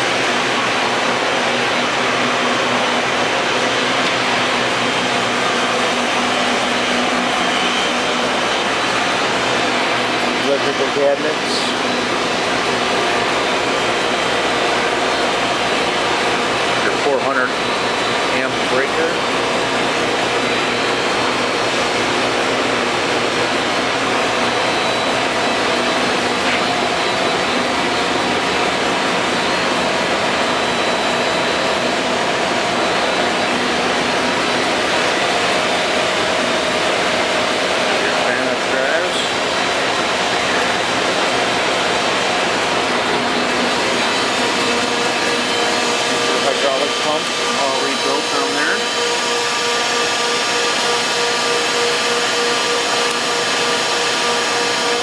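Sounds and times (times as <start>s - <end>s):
industrial machinery whirring: 0.0s - 55.0s.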